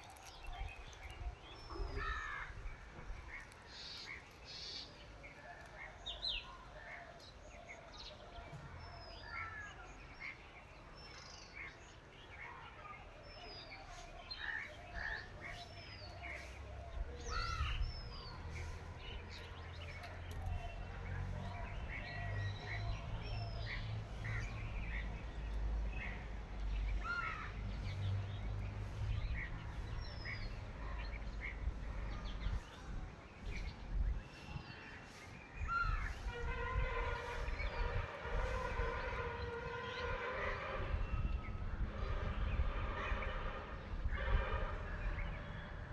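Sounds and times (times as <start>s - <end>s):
birds chirping and calling: 0.0s - 44.4s.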